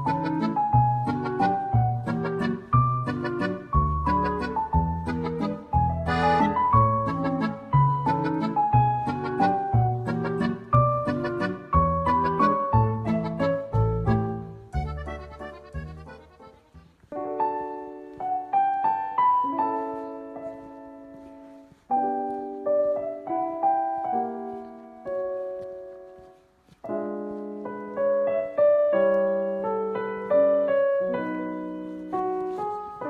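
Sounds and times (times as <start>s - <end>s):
gentle piano music: 0.0s - 33.0s.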